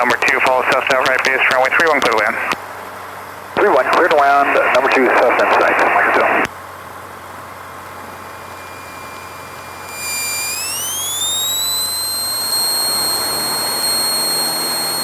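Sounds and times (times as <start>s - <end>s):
aircraft engine electrical whine: 0.0s - 15.0s.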